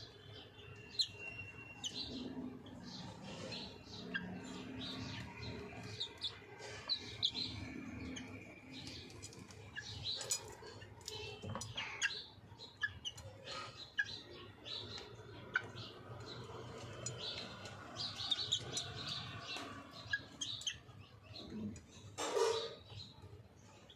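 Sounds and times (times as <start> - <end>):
chicken chirping and peeping: 0.0 - 23.9.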